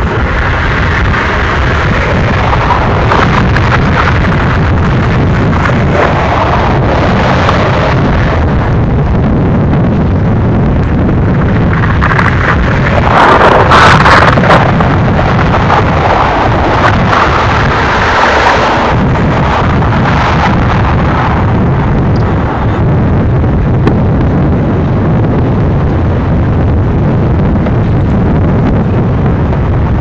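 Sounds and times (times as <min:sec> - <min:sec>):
freight train wheels rumbling on rail: 0:00.0 - 0:30.0.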